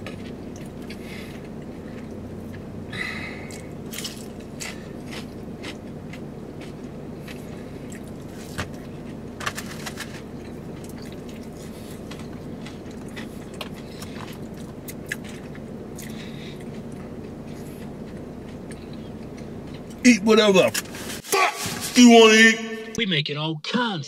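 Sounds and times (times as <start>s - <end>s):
man chewing food: 0.0s - 20.0s
low vehicle hum: 0.0s - 23.0s.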